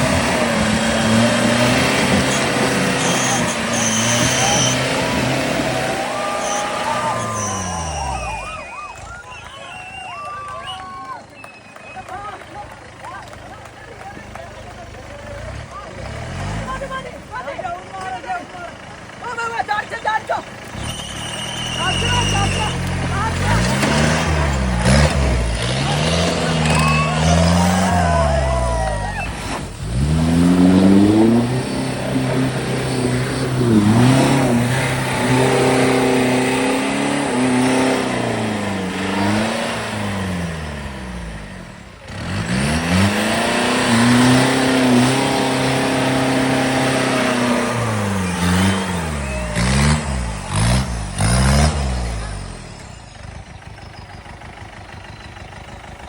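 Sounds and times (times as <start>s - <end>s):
offroad vehicle engine revving: 0.0s - 56.0s.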